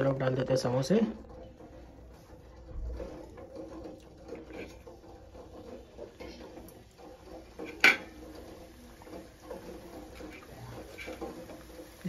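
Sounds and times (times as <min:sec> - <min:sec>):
frying in oil: 0:00.0 - 0:12.0.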